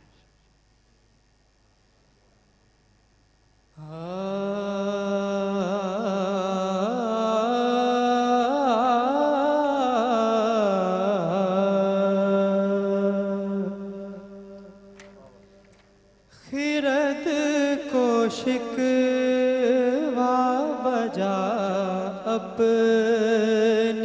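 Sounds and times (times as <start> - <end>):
man singing unaccompanied hymn: 3.7 - 24.0.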